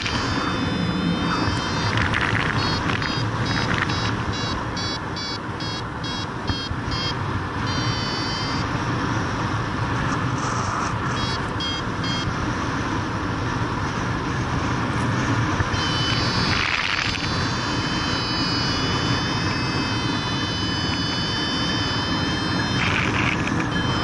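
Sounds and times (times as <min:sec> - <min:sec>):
variometer beeping: 0:00.0 - 0:09.7, 0:10.5 - 0:12.6, 0:15.5 - 0:24.0.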